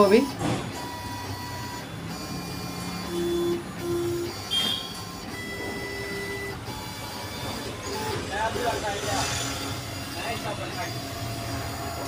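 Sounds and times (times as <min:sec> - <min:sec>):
cutting plotter motors whining: 0:00.0 - 0:12.0.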